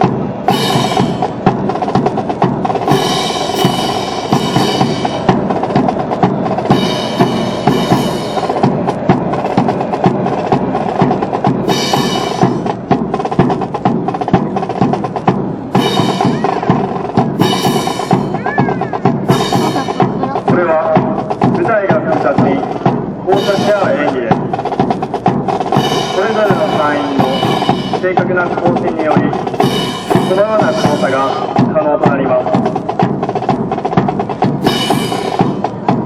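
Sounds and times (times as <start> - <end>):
snare and bass drum strokes: 0.0 - 36.0.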